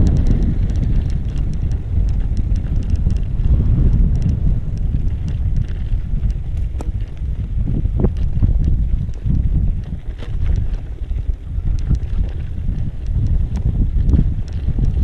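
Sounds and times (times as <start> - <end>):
light ticks and rattles: 0.0 - 15.0
wind rumbling on microphone: 0.0 - 15.0.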